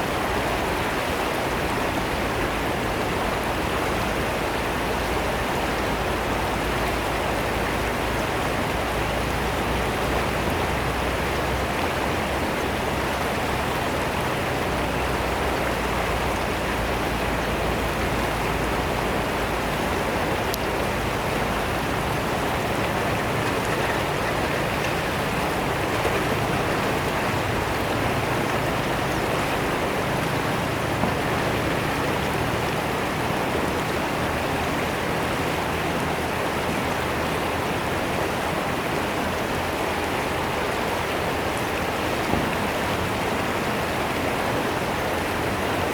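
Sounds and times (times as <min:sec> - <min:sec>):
river water rushing and splashing: 0:00.0 - 0:45.9.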